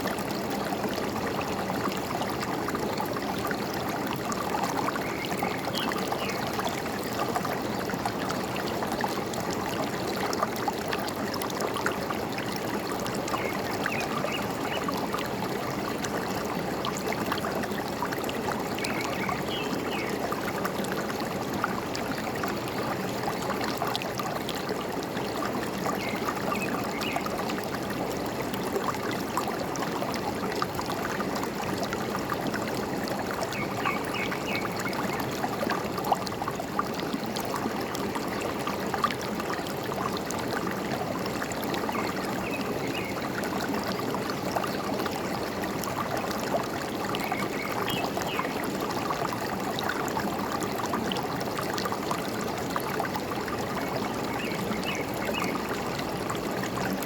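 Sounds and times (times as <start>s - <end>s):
stream trickling and gurgling: 0.0s - 57.0s.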